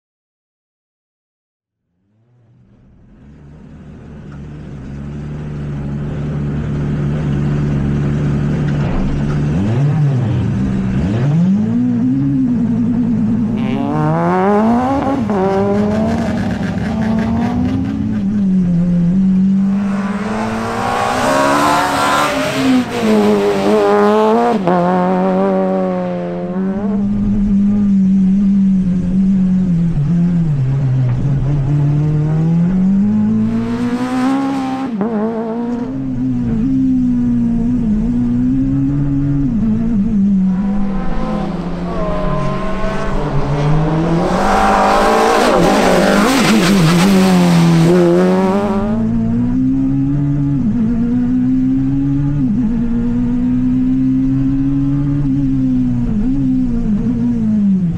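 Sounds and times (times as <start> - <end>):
rally car engine revving: 2.2 - 57.9.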